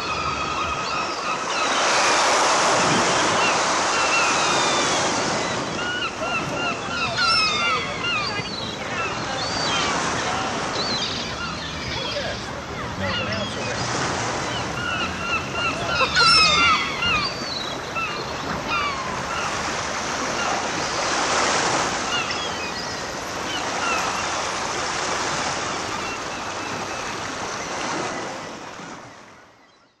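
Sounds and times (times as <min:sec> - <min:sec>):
surf washing on beach: 0:00.0 - 0:29.4
gulls calling: 0:00.0 - 0:30.0.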